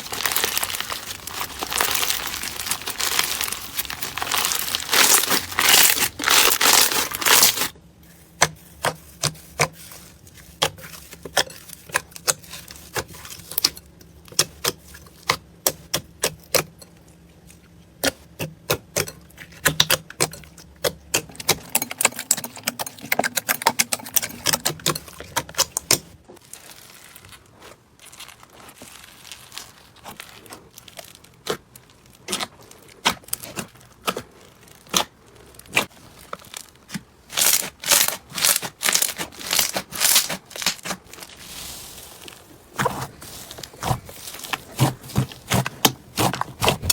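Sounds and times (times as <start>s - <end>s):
crinkling: 0.0s - 15.2s, 21.2s - 46.9s.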